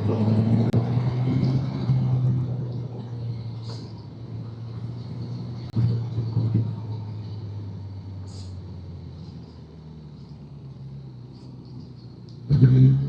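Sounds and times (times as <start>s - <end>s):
motorcycle engine running: 2.3s - 13.0s.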